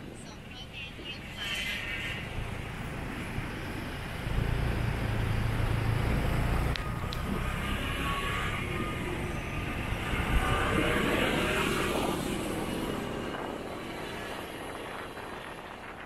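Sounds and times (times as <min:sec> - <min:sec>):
wind rushing over microphone: 0:00.0 - 0:16.0
motorbike engine drone: 0:01.3 - 0:16.0.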